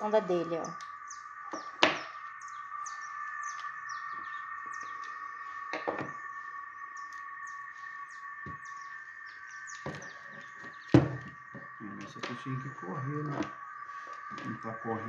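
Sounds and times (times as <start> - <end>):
bird chirping: 0.0 - 15.0
steady high hum: 0.0 - 15.0.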